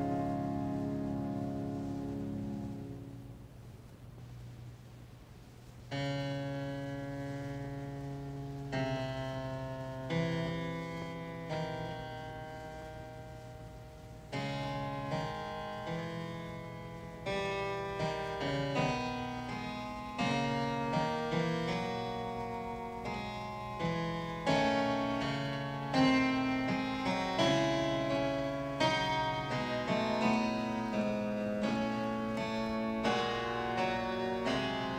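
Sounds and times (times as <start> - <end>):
classical piano music: 6.0 - 34.9.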